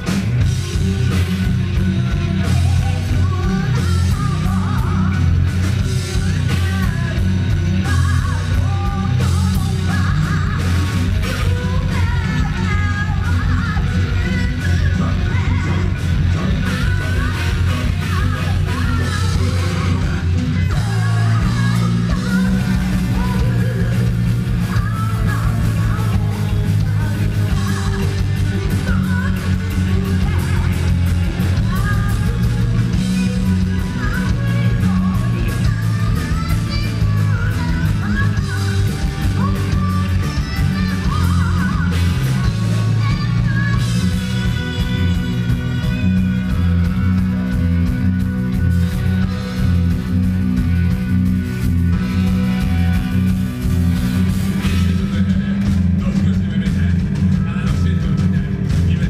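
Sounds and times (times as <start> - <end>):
person singing: 0.0 - 51.1, 51.8 - 59.0
bass guitar: 0.0 - 59.0
electric guitar: 0.0 - 59.0
fast drumming: 0.0 - 59.0.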